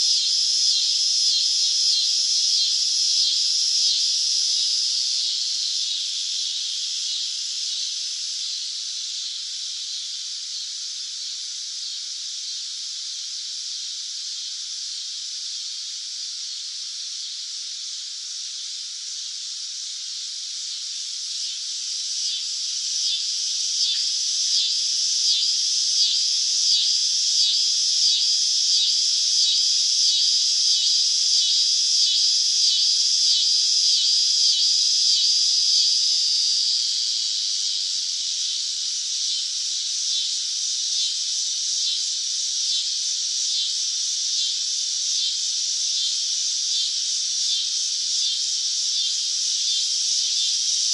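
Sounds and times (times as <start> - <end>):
cicadas buzzing: 0.0 - 50.9.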